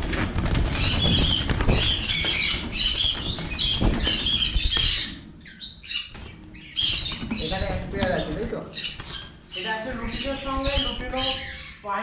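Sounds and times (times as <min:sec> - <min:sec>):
wings flapping: 0:00.0 - 0:11.8
cockatiels squawking: 0:01.0 - 0:12.0.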